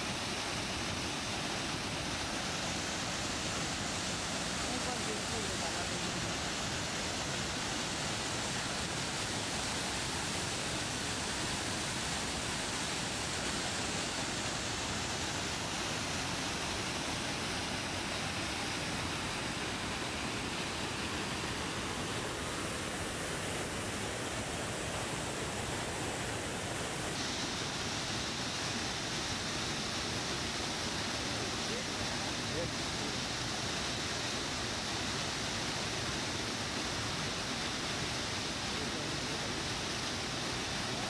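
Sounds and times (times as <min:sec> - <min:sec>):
waterfall rushing over rocks: 0:00.0 - 0:41.0.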